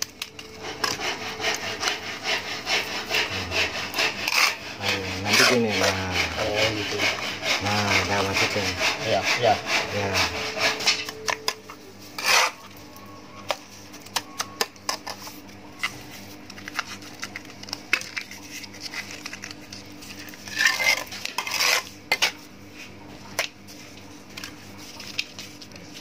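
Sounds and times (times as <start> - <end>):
scraping and rustling: 0.0 - 23.0, 23.6 - 26.0.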